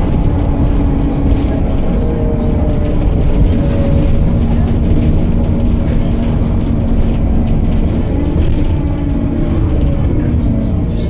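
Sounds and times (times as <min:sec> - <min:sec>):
bus engine hum: 0:00.0 - 0:11.0
low road rumble: 0:00.0 - 0:11.0.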